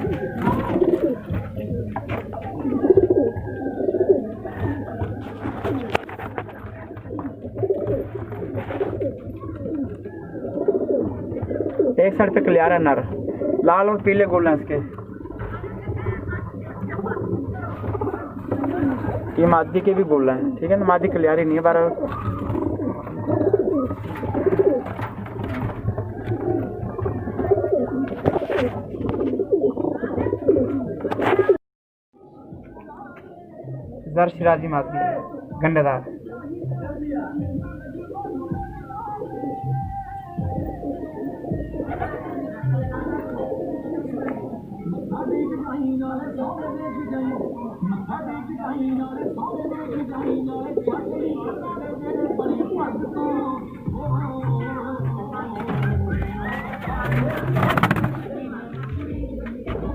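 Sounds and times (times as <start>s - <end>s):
pigeons cooing: 0.0s - 31.6s, 35.1s - 59.9s.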